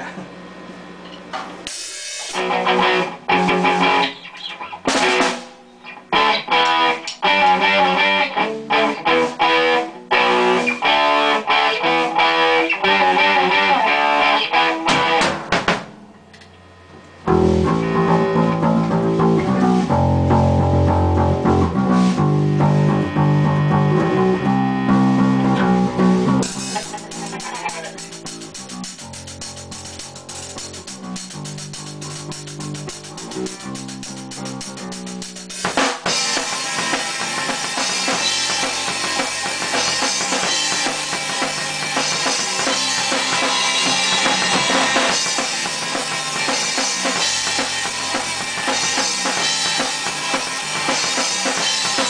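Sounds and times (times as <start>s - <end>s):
rock band playing: 1.6s - 15.8s, 17.2s - 52.0s.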